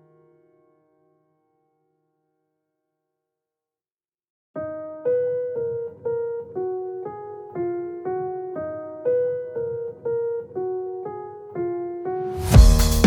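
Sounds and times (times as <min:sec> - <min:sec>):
slow piano-like melody: 0:00.0 - 0:02.2, 0:04.6 - 0:13.0.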